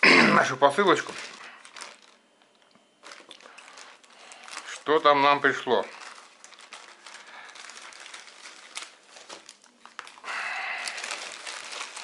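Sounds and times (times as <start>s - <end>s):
plastic film crinkling: 0.6s - 12.0s.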